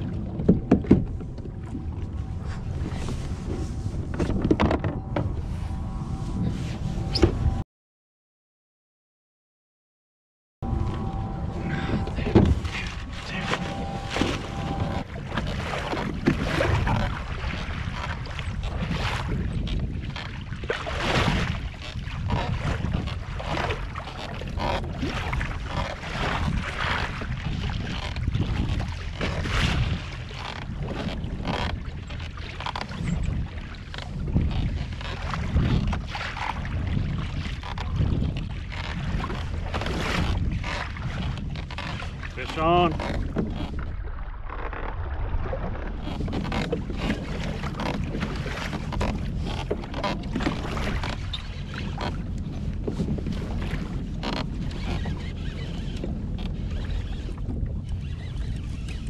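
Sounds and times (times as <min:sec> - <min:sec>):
water slapping kayak hull: 0:00.0 - 0:07.6, 0:10.6 - 0:59.0
wind rumble on microphone: 0:00.0 - 0:07.6, 0:10.6 - 0:59.0.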